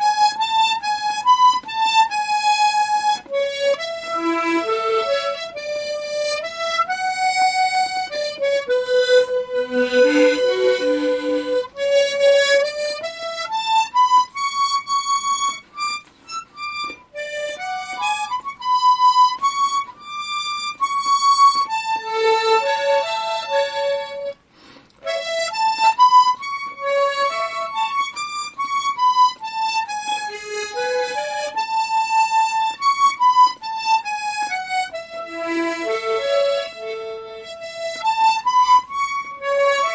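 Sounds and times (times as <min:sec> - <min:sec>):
harmonica playing slow melody: 0:00.0 - 0:39.9.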